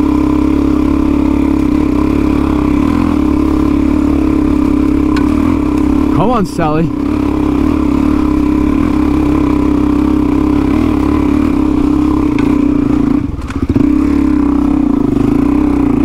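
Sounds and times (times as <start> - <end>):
motorcycle engine pulling under load: 0.0 - 6.3, 7.0 - 16.0.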